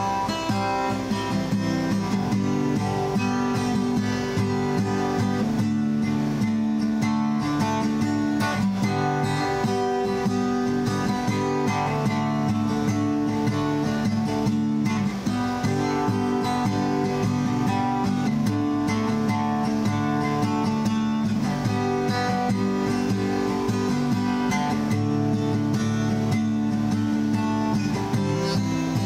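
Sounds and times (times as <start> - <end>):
guitar strumming chords: 0.0 - 29.0.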